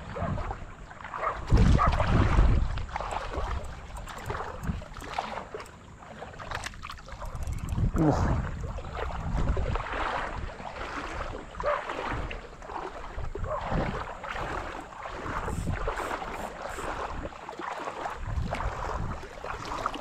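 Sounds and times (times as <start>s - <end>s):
lapping shallow water: 0.0s - 20.0s
wind buffeting microphone: 1.4s - 5.3s, 6.8s - 17.4s, 18.1s - 20.0s.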